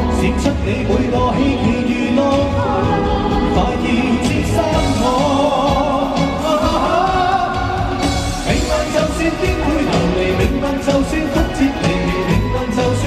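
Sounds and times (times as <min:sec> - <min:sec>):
full band accompaniment: 0:00.0 - 0:13.0
man singing into a microphone: 0:00.0 - 0:13.0.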